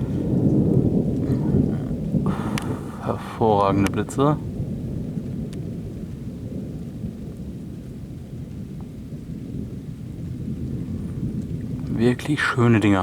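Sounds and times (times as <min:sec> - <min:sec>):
low rumble of thunder: 0:00.0 - 0:13.0.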